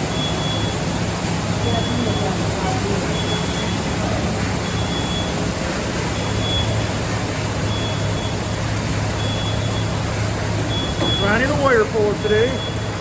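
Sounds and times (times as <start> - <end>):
reversing alarm beeps: 0.0 - 0.9, 1.6 - 13.0
diesel engine running: 0.0 - 13.0.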